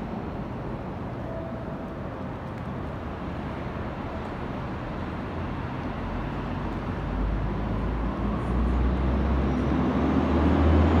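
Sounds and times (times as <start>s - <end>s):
street traffic noise: 0.0s - 11.0s
vehicle rumble: 0.0s - 11.0s.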